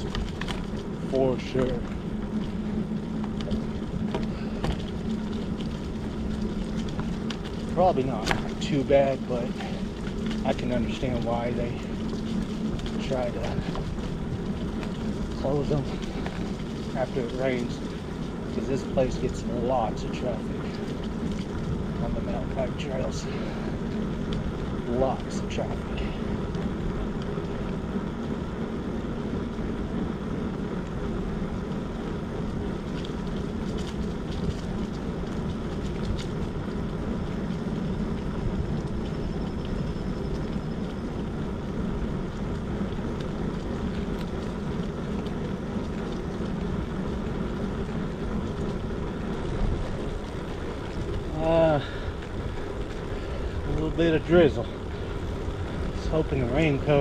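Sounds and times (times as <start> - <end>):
bicycle tyres on paved road: 0.0 - 57.0.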